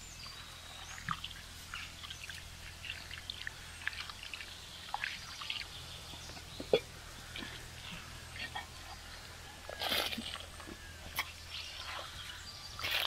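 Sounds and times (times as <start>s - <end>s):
water sloshing and trickling: 0.1s - 13.0s.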